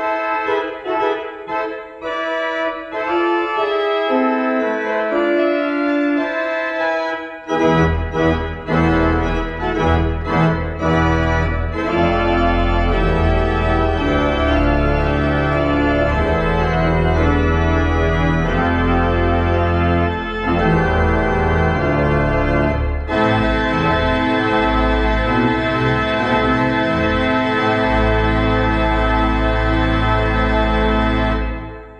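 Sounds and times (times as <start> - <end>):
organ pedal bass: 0.0 - 31.9
organ playing sustained chords: 0.0 - 31.9.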